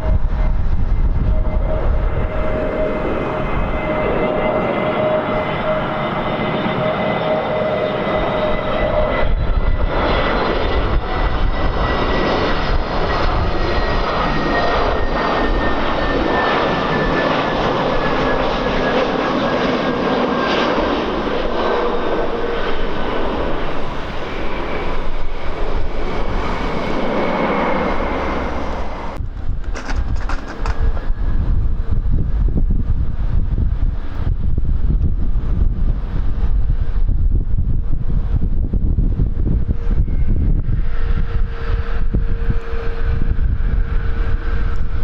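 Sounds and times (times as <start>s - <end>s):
airliner engines roaring with whine: 0.0s - 45.0s
wind buffeting microphone: 0.0s - 45.0s.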